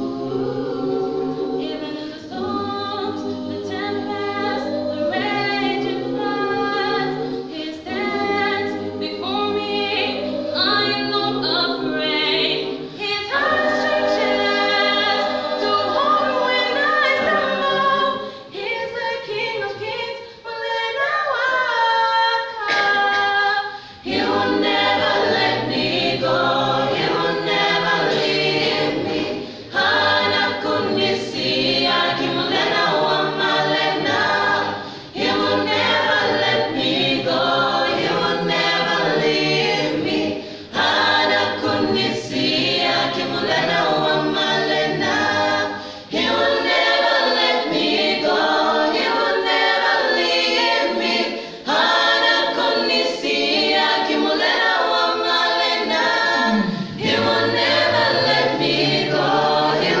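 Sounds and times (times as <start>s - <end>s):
mixed choir singing a cappella: 0.0s - 60.0s.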